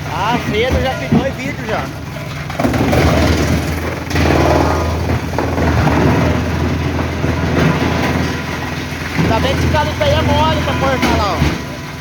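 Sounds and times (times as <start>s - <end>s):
heavy machinery running: 0.0s - 12.0s.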